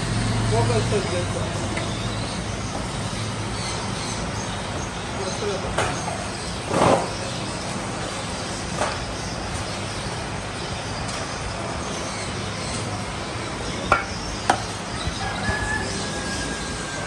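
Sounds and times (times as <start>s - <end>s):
busy street hiss: 0.0s - 17.0s.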